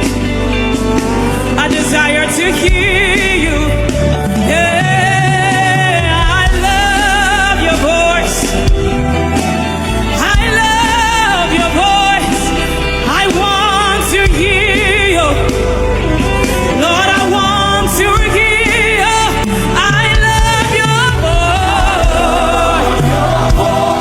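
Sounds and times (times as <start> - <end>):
band accompaniment: 0.0 - 24.0
person singing with vibrato: 0.0 - 24.0.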